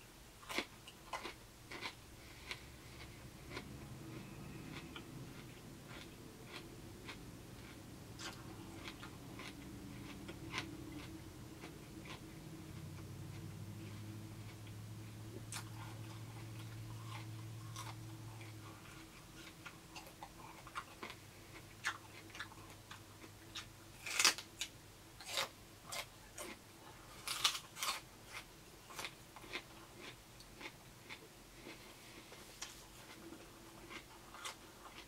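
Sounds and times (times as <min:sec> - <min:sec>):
crunching and chewing bell pepper: 0:00.4 - 0:35.0.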